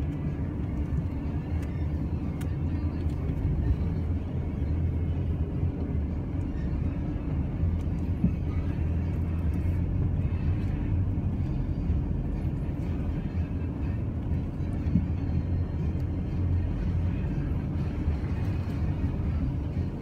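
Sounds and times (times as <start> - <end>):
pickup engine and tyres rumbling: 0.0 - 20.0.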